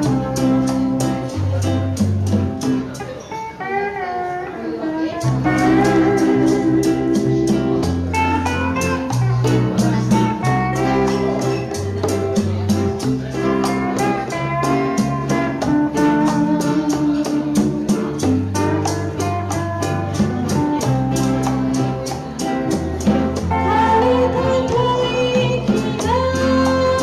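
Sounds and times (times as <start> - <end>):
maracas: 0.0 - 3.8, 5.0 - 27.0
congas: 0.0 - 27.0
lap steel guitar melody: 0.0 - 27.0
strummed guitar: 0.0 - 27.0.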